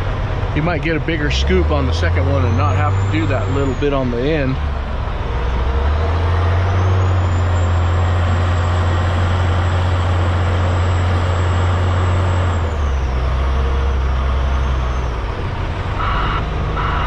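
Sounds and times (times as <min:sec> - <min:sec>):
wheel loader engine revving: 0:00.0 - 0:17.0.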